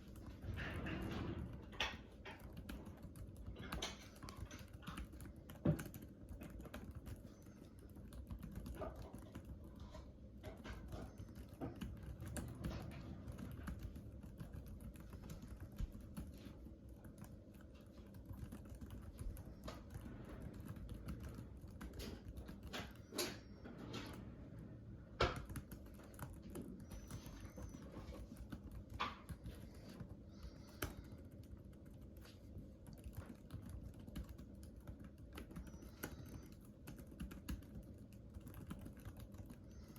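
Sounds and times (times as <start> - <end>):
typing on a computer keyboard: 0.0 - 39.9.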